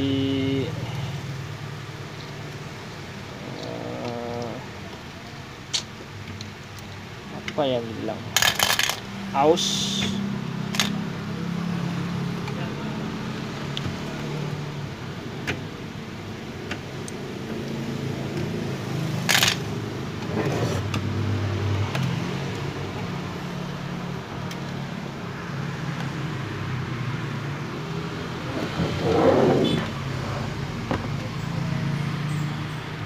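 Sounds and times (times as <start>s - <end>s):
low hum of traffic: 0.0s - 33.0s.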